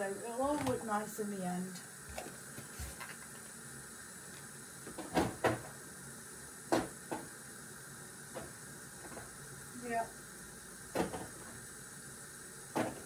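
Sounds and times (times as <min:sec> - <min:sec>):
hiss of steaming pot: 0:00.0 - 0:13.0.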